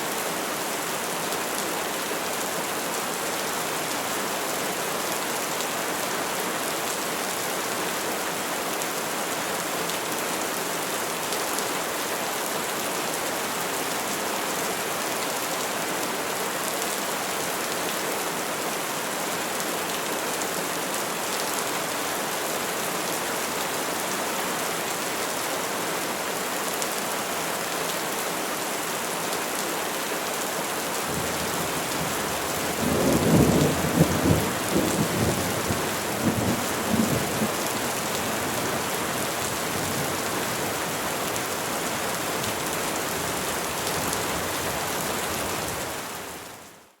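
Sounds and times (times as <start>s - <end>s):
rain falling on trees: 0.0s - 47.0s.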